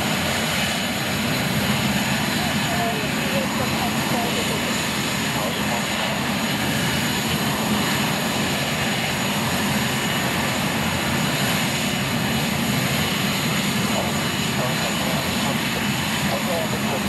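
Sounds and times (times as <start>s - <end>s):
jet engines whining at taxi: 0.0s - 17.0s.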